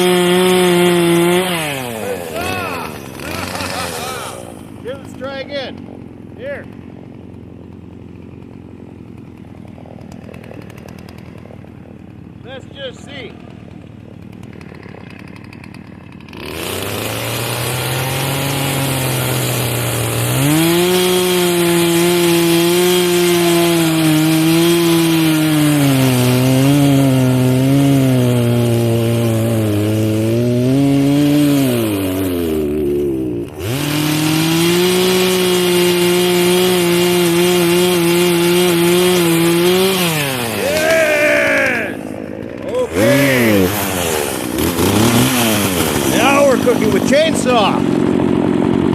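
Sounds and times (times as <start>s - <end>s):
chainsaw engine revving: 0.0s - 48.9s.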